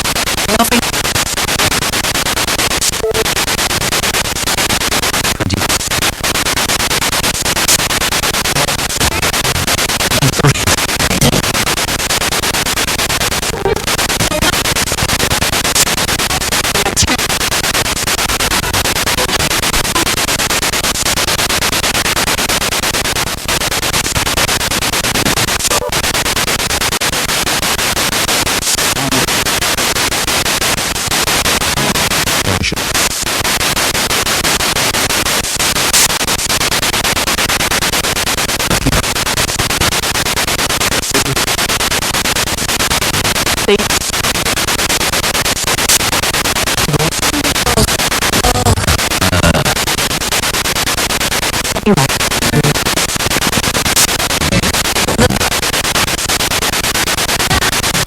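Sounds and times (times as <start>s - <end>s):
chopped radio broadcast scraps: 0.0s - 58.0s
radio static hiss: 0.0s - 58.0s.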